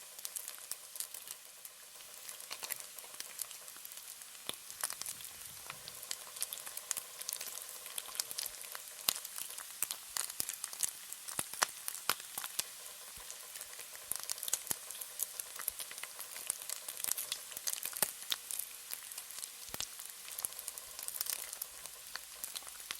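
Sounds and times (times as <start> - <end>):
bacon frying with crackles: 0.0 - 22.9.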